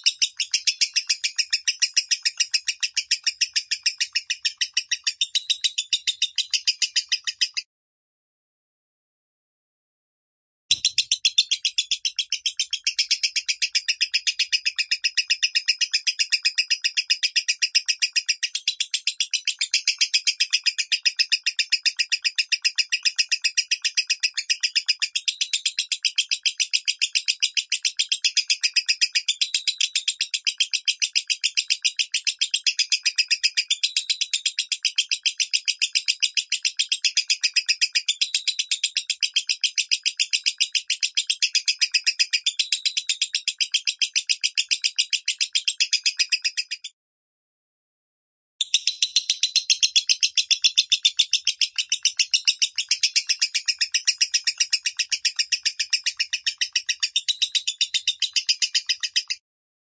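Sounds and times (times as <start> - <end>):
lovebird high-pitched chirps: 0.0 - 7.7, 10.7 - 47.0, 48.6 - 59.4.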